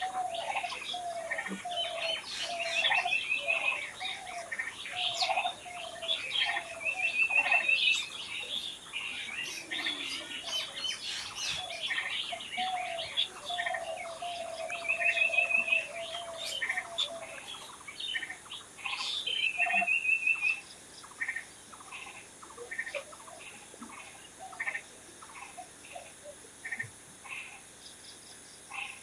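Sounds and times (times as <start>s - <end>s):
rapid bird trills: 0.0s - 28.0s
songbirds chirping and singing: 0.0s - 29.0s.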